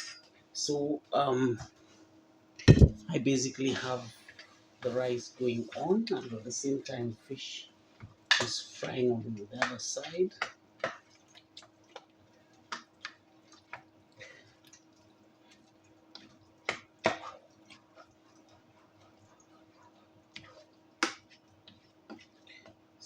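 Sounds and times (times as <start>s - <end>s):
faint steady hum: 0.0s - 23.0s
food frying in hot oil: 3.6s - 23.0s.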